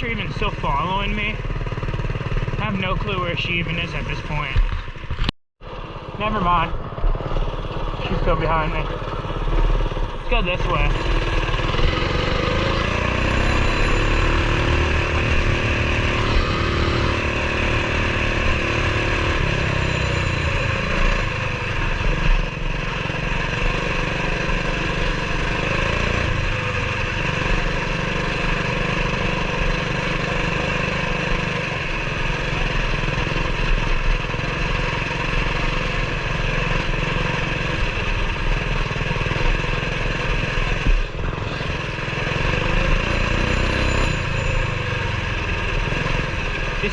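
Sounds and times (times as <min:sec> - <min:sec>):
mini bike engine running: 0:05.7 - 0:46.9.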